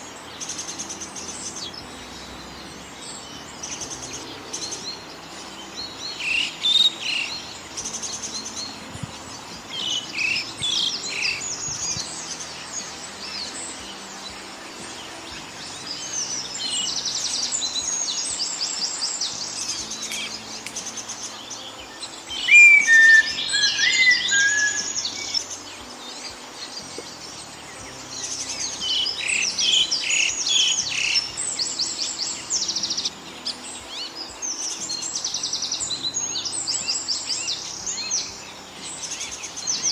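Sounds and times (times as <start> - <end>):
bird with low chirps and whistles: 0.0 - 39.9
small birds chirping and trilling: 0.0 - 39.9.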